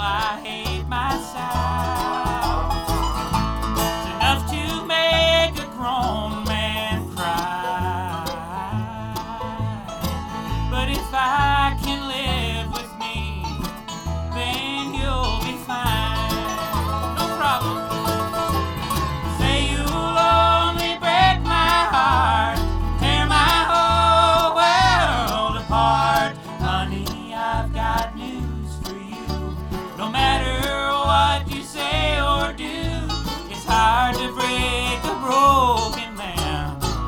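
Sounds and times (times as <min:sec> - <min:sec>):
banjo: 0:00.0 - 0:37.0
bass line: 0:00.0 - 0:37.0
guitar: 0:00.0 - 0:37.0.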